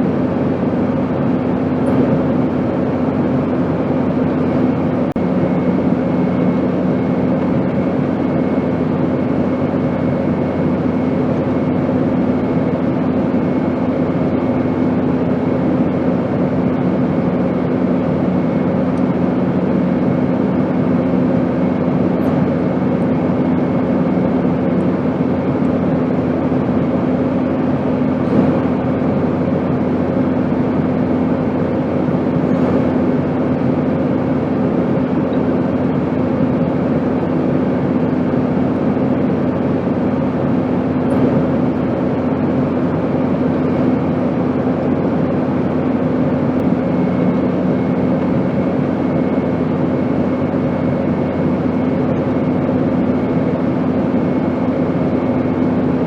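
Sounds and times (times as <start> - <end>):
airplane engine drone: 0.0 - 56.0
constant low hum: 0.0 - 56.0.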